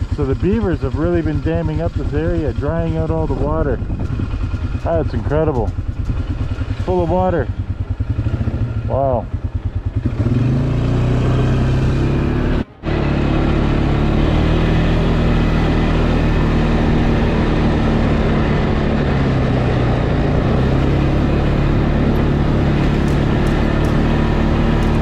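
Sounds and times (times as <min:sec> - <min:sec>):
off-road vehicle engine running: 0:00.0 - 0:25.0
rushing wind and ground noise: 0:01.2 - 0:11.2, 0:12.4 - 0:25.0.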